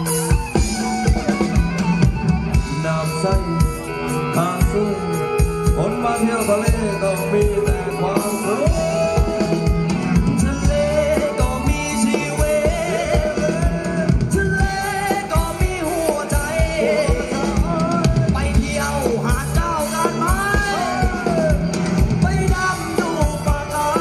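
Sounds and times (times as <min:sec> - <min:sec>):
steady drum beat: 0:00.0 - 0:24.0.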